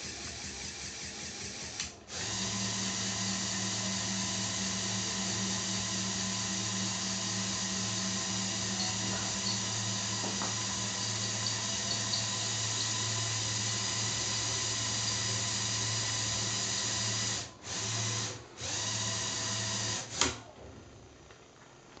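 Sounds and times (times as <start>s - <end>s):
electric motors whining: 0.0s - 20.5s.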